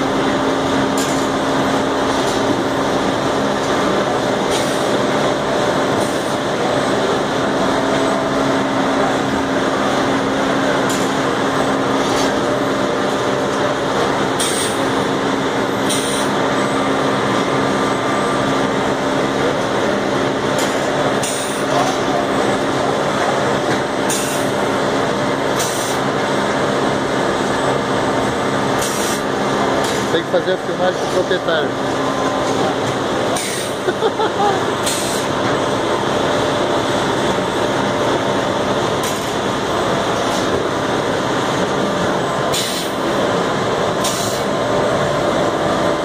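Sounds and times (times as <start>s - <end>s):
conveyor machinery humming: 0.0s - 46.0s.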